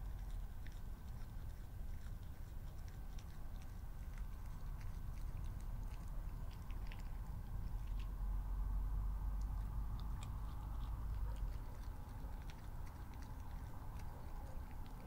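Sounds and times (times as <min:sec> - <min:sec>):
fox chewing food: 0:00.0 - 0:15.0.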